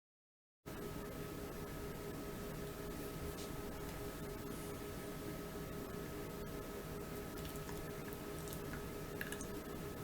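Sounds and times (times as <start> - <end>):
faint hum tones: 0.7 - 10.0.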